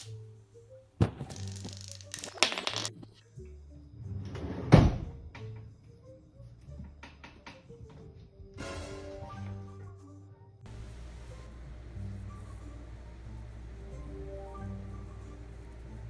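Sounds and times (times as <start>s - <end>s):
light background music: 0.0s - 16.0s.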